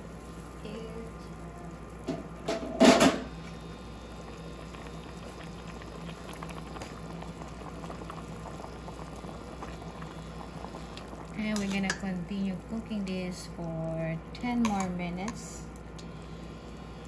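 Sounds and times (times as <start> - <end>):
sauce bubbling in pan: 0.0 - 17.0.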